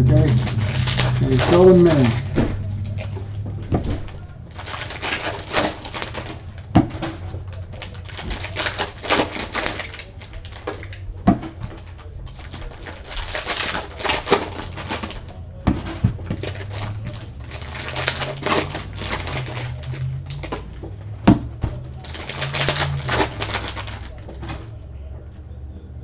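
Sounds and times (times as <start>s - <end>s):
foil packs crinkling: 0.0s - 24.8s
low steady hum: 0.0s - 26.0s.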